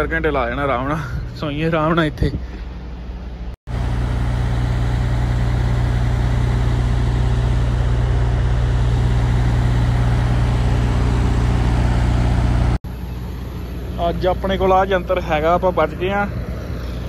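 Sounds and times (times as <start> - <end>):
truck diesel engine humming: 2.4 - 17.0.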